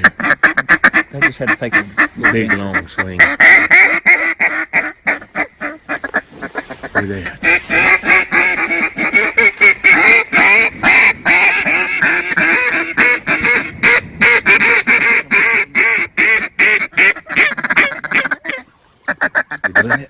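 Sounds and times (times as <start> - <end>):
duck calls quacking: 0.0 - 20.0.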